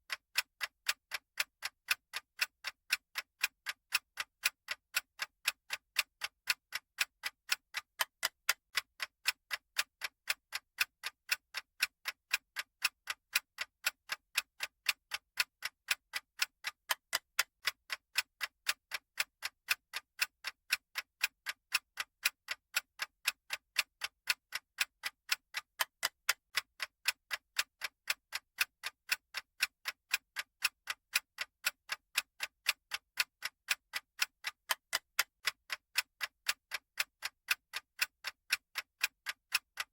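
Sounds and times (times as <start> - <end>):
clock-like ticking: 0.1 - 39.9.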